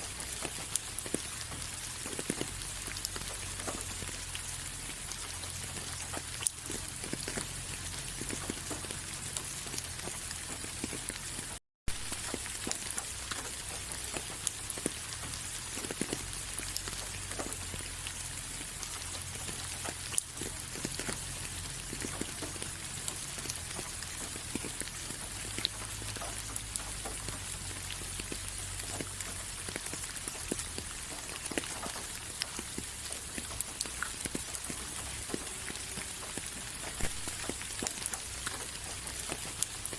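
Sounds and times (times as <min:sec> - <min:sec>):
rain hiss: 0:00.0 - 0:39.9
raindrops tapping: 0:00.0 - 0:39.9.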